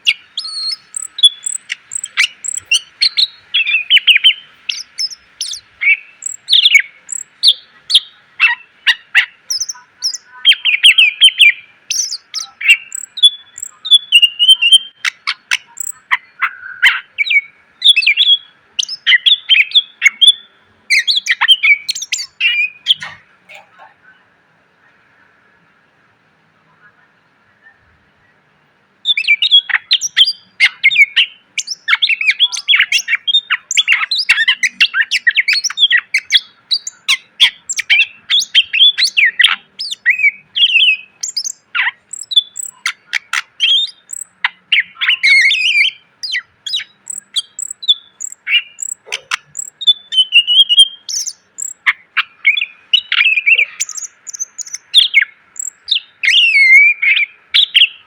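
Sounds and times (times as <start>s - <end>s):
bird chirping whistling and trilling: 0.0s - 23.2s, 29.1s - 58.0s.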